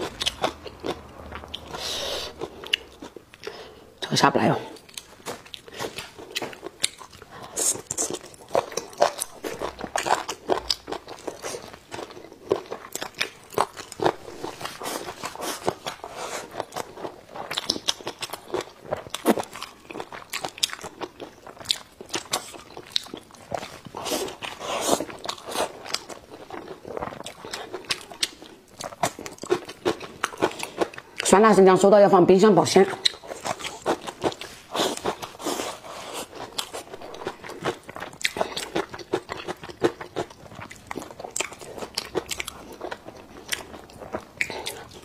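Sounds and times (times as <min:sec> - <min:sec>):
wet chewing: 0:00.0 - 0:03.9, 0:04.7 - 0:31.3, 0:32.8 - 0:45.0.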